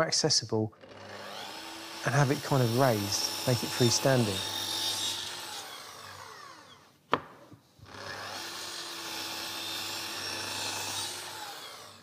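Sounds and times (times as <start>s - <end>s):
electric mitre saw cutting wood: 0.8s - 6.9s, 7.8s - 12.0s.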